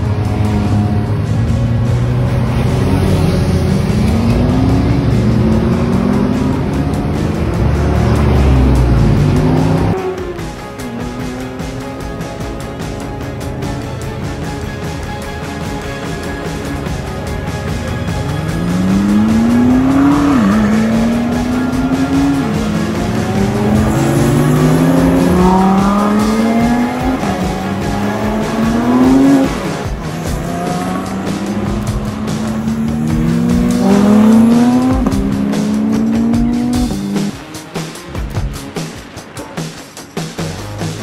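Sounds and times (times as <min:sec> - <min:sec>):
supercar engines accelerating: 0:00.0 - 0:38.7.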